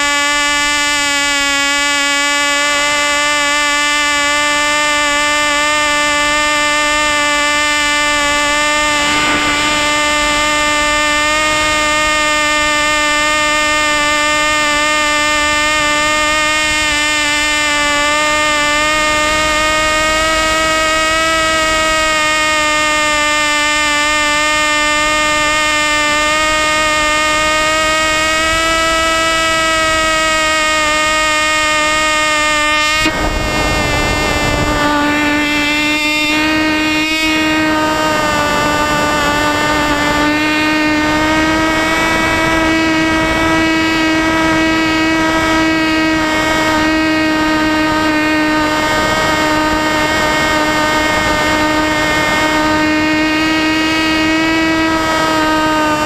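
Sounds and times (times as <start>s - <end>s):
model airplane engine buzzing: 0.0s - 56.0s
wind noise: 0.0s - 56.0s.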